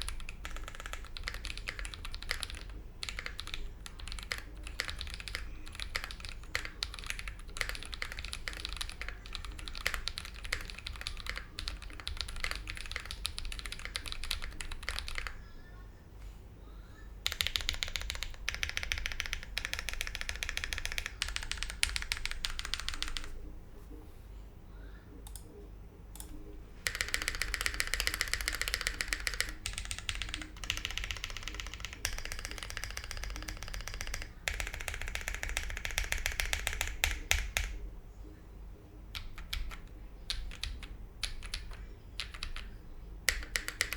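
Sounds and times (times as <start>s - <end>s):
mechanical keyboard typing: 0.0s - 15.4s, 17.2s - 23.4s, 26.2s - 37.8s, 39.1s - 42.7s, 43.3s - 43.9s.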